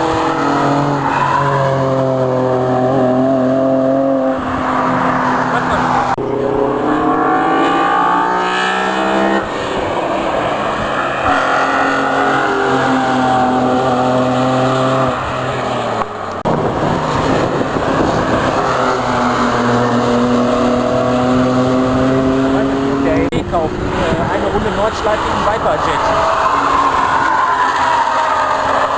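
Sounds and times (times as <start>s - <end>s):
race car engines howling: 0.0s - 28.9s.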